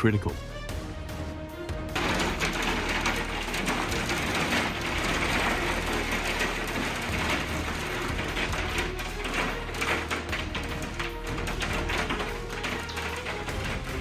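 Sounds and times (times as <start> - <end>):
hailstones pelting hard surfaces: 1.5 - 14.0.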